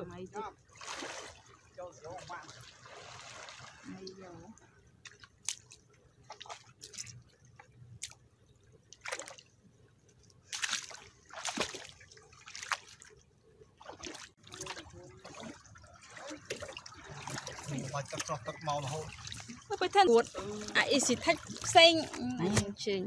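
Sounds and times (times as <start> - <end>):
river water splashing: 0.7 - 8.2, 8.9 - 9.5, 10.4 - 22.2.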